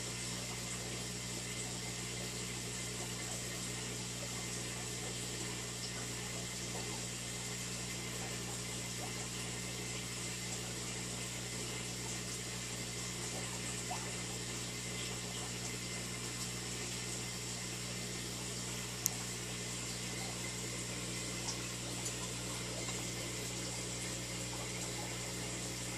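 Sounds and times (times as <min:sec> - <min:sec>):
aquarium pump humming: 0:00.0 - 0:25.9
water washing in tank: 0:00.0 - 0:25.9.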